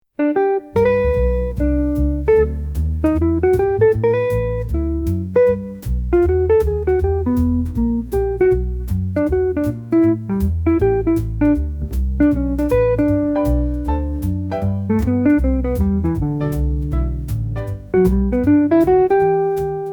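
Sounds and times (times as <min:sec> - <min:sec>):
upbeat jazz music: 0:00.2 - 0:19.9.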